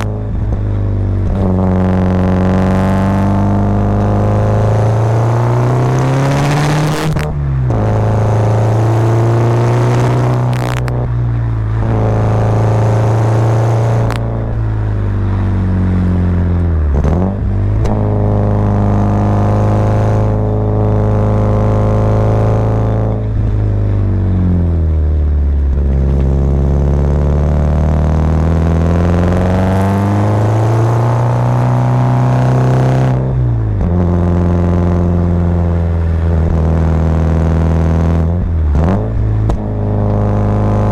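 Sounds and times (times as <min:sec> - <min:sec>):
turbocharged car engine revving: 0:00.0 - 0:40.9.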